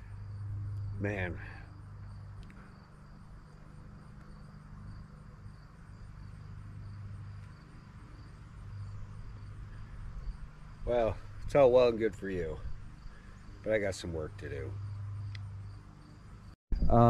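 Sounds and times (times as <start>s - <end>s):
crickets chirping: 0.0s - 17.0s
low steady hum: 0.0s - 17.0s.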